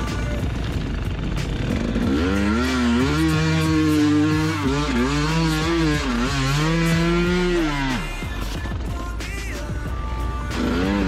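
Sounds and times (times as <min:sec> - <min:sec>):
motorcycle engine revving hard: 0:00.0 - 0:08.5, 0:10.5 - 0:11.0.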